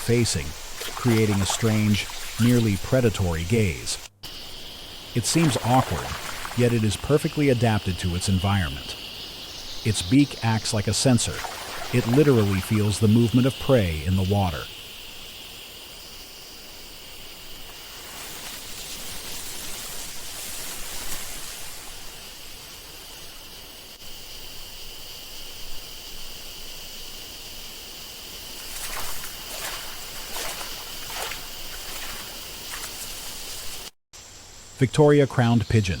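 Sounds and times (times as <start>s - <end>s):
high insect chorus: 0.0s - 36.0s.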